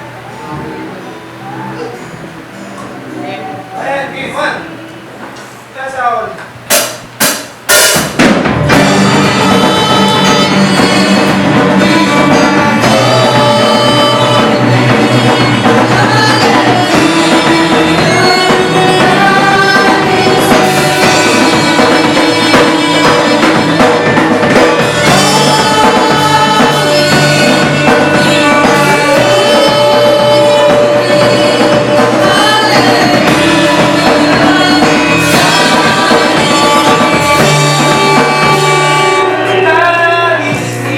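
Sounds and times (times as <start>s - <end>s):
live band playing loudly: 6.4s - 40.9s.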